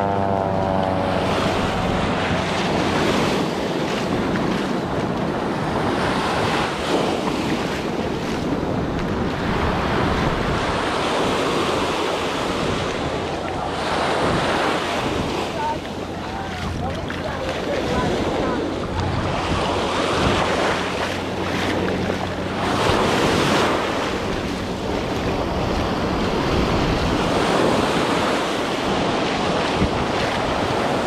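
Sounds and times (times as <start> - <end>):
ocean surf: 0.0 - 31.0
wind on microphone: 0.0 - 31.0.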